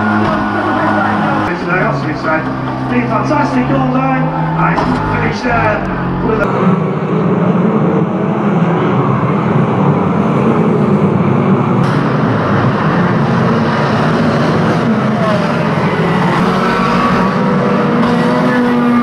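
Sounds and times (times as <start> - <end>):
racing car engines running hard: 0.0 - 19.0.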